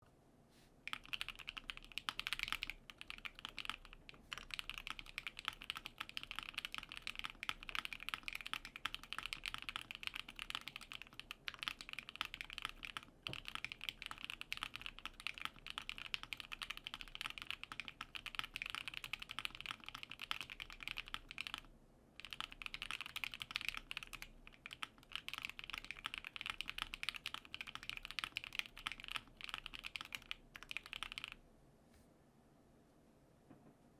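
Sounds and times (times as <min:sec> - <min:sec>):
fast typing on mechanical keyboard: 0:00.9 - 0:31.4.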